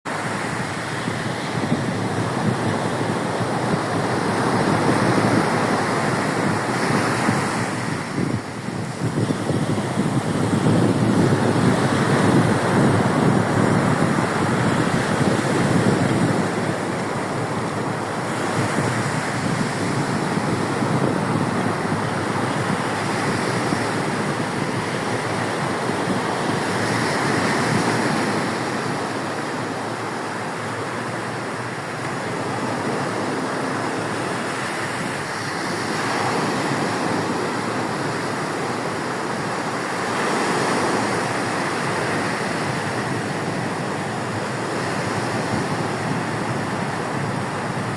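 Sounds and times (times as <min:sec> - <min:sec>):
waves breaking on beach: 0:00.0 - 0:47.9
wind on microphone: 0:00.1 - 0:47.9.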